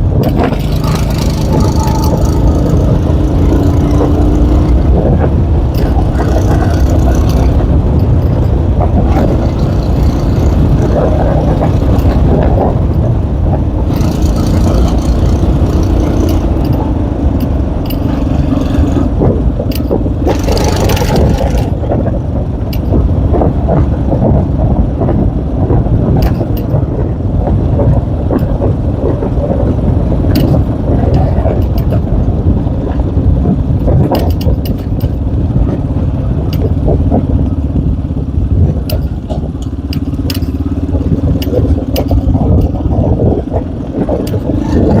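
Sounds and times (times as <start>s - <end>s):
knocks and rattles: 0.0s - 45.0s
motorcycle engine rumbling: 0.0s - 45.0s.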